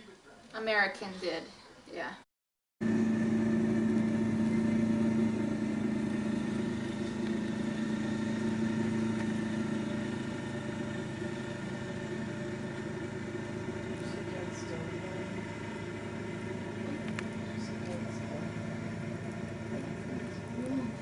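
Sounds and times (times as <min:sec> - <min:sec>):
engine humming: 0:02.8 - 0:21.0.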